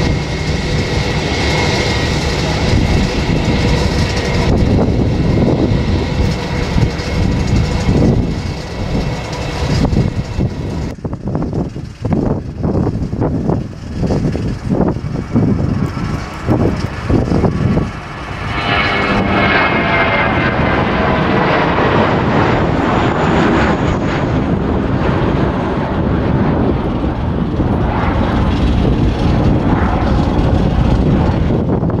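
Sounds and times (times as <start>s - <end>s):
jet airliner taking off: 0.0s - 32.0s
thin jet whine: 0.0s - 32.0s.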